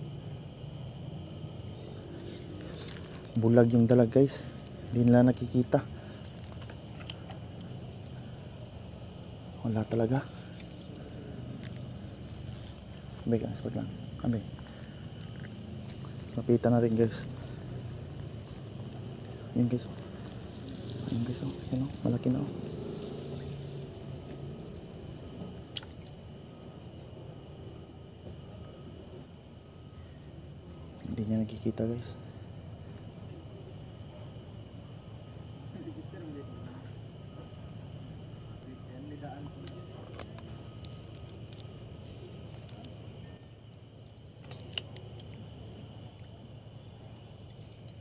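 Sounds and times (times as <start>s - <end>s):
night insects trilling: 0.0s - 48.0s.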